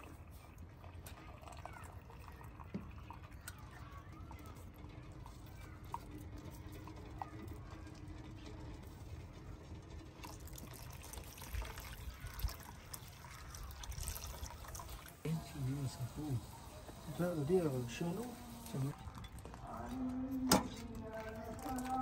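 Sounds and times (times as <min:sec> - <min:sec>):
milk pouring into saucepan: 0:00.0 - 0:19.6, 0:20.8 - 0:22.0.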